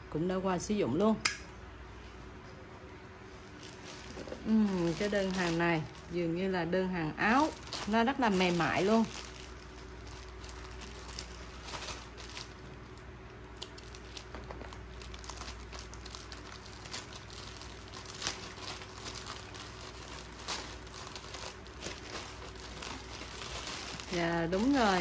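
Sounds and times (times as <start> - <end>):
faint steady hum: 0.0 - 25.0
packaging crinkling: 3.4 - 25.0.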